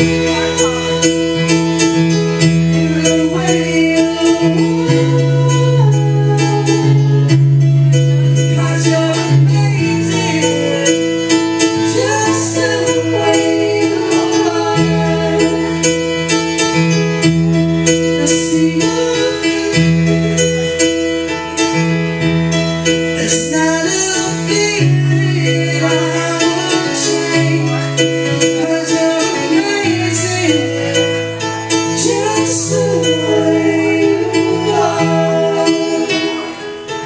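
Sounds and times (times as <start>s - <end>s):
vocal group singing: 0.0s - 7.6s, 8.3s - 16.8s, 17.9s - 21.0s, 23.2s - 37.0s.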